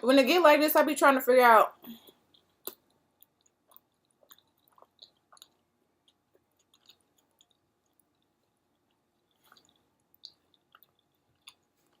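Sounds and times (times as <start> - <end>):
chewing with wet mouth clicks: 2.0 - 12.0.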